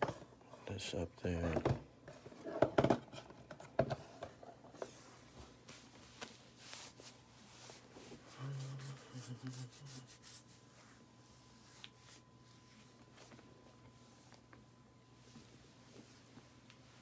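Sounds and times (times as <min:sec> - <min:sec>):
low muffled hum: 0:00.0 - 0:17.0.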